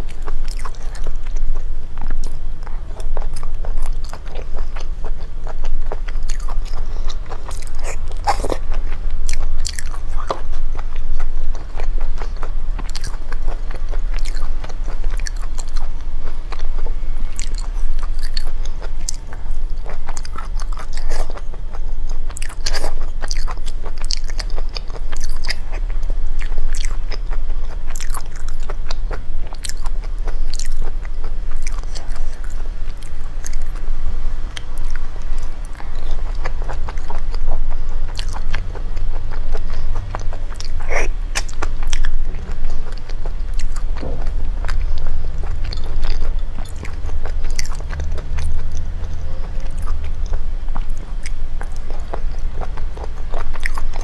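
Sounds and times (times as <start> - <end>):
chewing and biting: 0.0 - 33.9, 34.5 - 54.0
low hum: 0.0 - 54.0.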